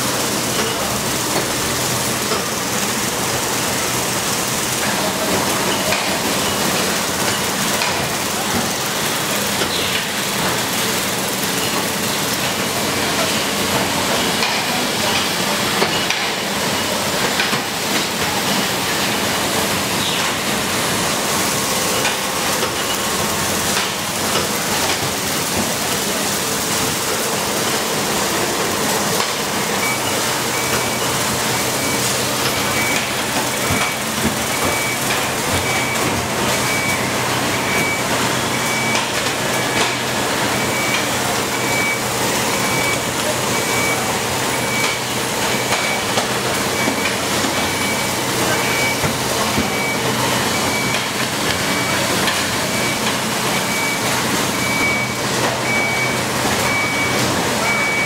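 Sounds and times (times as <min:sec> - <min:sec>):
factory machinery hiss and hum: 0:00.0 - 0:58.0.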